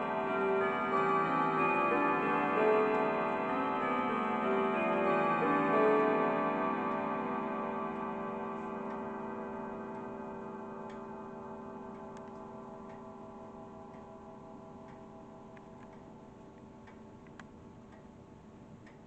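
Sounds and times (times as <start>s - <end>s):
clock chimes ringing: 0.0s - 16.4s
faint clock ticking: 0.0s - 19.0s.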